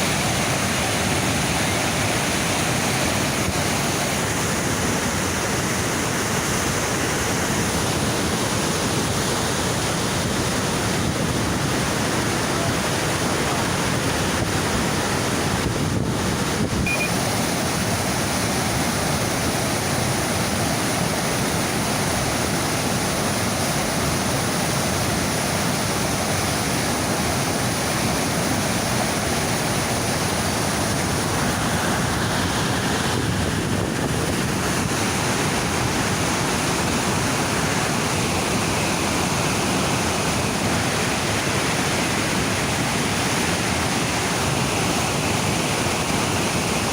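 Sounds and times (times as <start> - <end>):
river rapids rushing: 0.0 - 46.9.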